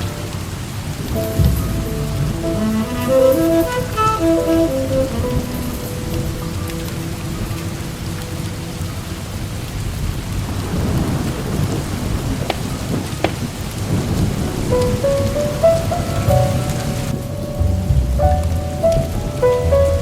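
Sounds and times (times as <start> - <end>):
heavy rain: 0.0 - 20.0
thunder rumbling: 0.0 - 20.0.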